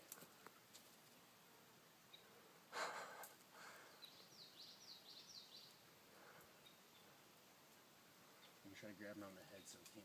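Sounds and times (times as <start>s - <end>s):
songbird singing: 1.9s - 10.0s.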